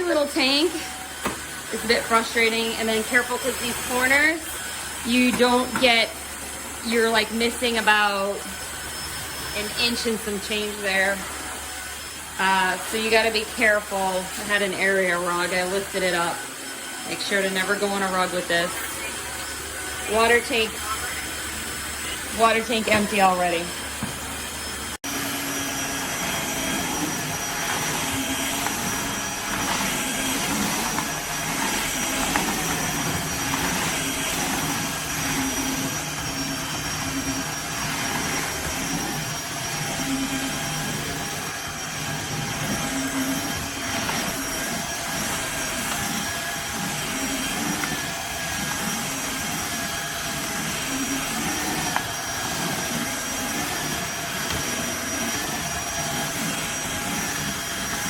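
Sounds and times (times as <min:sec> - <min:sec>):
floor cleaner motor whining: 0:00.0 - 0:58.0.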